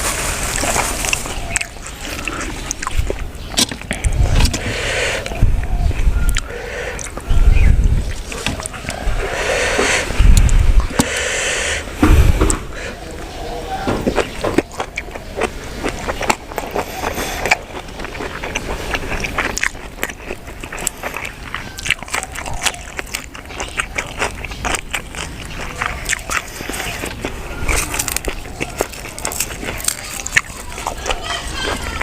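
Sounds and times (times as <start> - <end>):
wet chewing crunches: 0.0 - 32.0.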